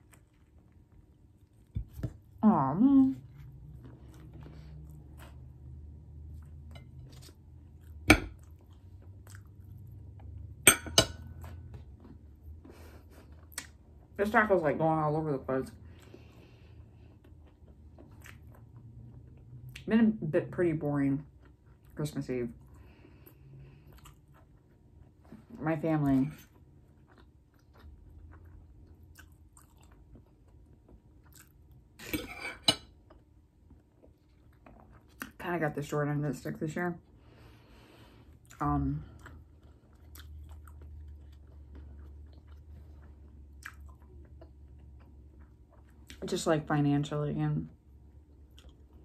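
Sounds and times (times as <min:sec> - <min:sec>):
chewing taco: 0:00.0 - 0:02.4, 0:03.0 - 0:10.6, 0:11.3 - 0:14.2, 0:15.7 - 0:19.9, 0:21.2 - 0:25.5, 0:26.4 - 0:35.4, 0:37.0 - 0:46.4, 0:47.8 - 0:49.0.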